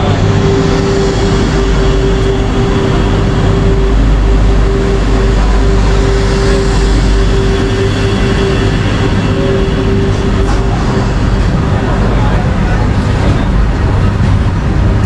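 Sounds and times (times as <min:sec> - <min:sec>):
train rumbling from on board: 0:00.0 - 0:15.0.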